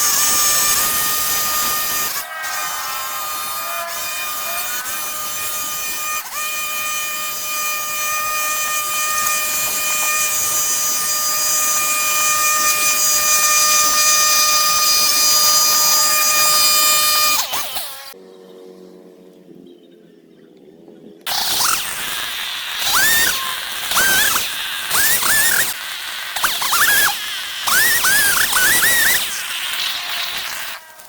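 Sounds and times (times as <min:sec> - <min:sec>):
power tool engine running: 0:00.0 - 0:18.2, 0:21.3 - 0:31.0.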